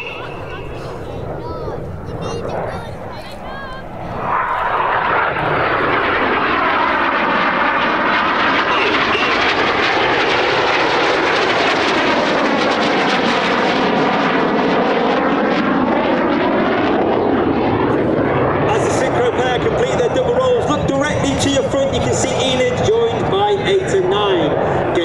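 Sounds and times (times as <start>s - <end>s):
jet roar: 0.0s - 25.0s.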